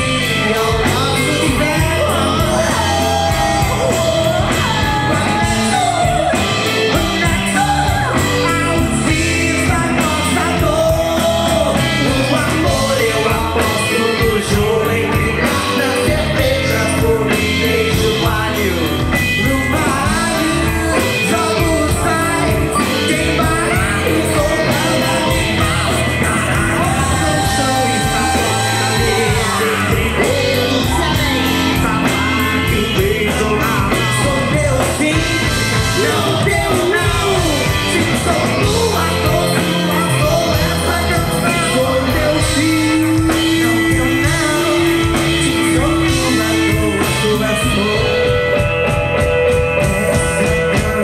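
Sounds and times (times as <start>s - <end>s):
live band with singing: 0.0s - 51.0s.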